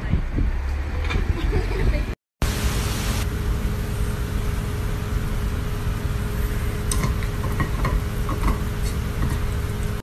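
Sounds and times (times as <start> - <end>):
mechanical hum: 0.0 - 10.0.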